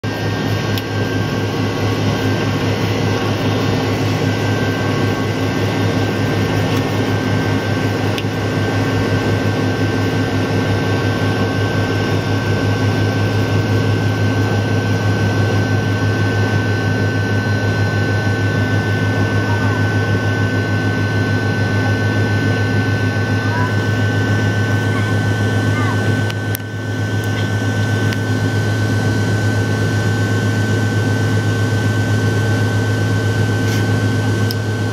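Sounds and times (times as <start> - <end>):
high engine whine: 0.0 - 34.9
jet engine hum: 0.0 - 34.9.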